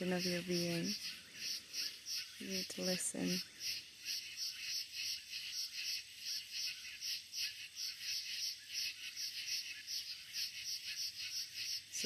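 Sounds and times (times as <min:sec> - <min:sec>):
frogs calling: 0:00.0 - 0:12.0
insects trilling: 0:00.0 - 0:12.0.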